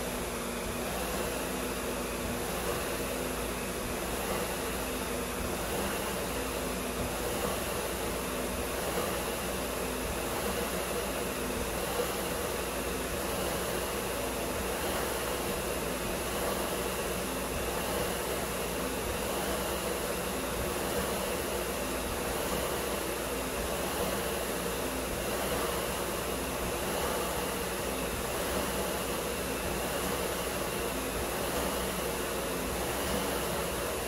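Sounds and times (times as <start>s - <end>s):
flywheel fan whirring: 0.0s - 34.0s.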